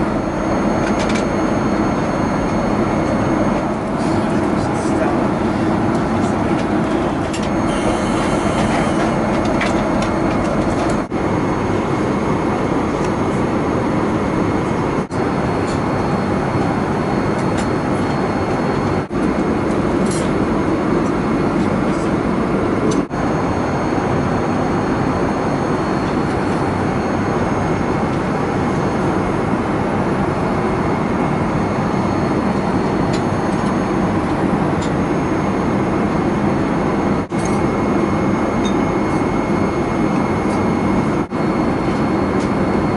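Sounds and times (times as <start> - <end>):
airliner cabin noise: 0.0 - 42.9.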